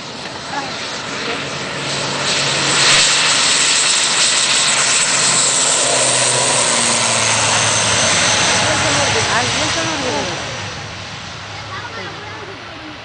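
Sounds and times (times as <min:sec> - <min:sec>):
turboprop engines at high power: 0:00.0 - 0:13.0.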